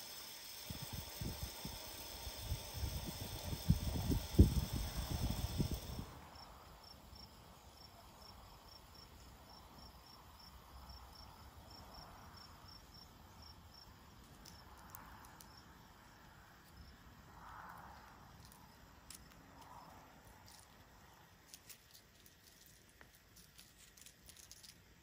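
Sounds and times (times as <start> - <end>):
insect chirping: 0.0 - 25.0.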